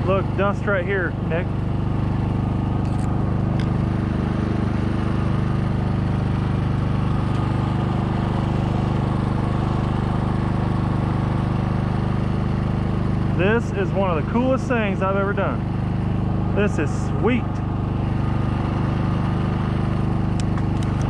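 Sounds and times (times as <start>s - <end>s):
generator engine running: 0.0s - 21.0s.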